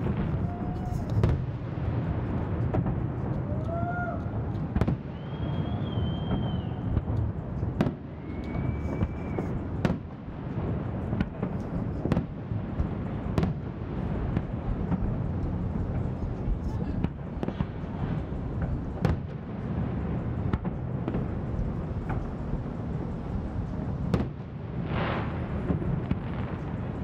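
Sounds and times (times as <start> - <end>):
continuous low rumble: 0.0 - 27.0
fireworks bursting bangs: 0.0 - 27.0.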